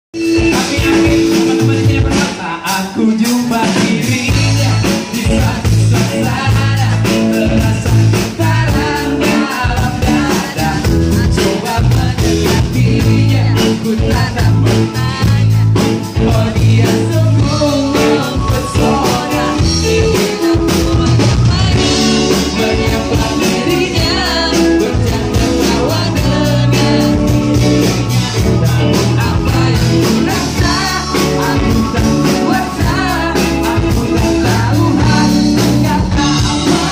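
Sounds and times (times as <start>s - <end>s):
drum kit: 0.1s - 36.9s
electric bass: 0.1s - 36.9s
electric guitar: 0.1s - 36.9s
man singing: 0.1s - 36.9s.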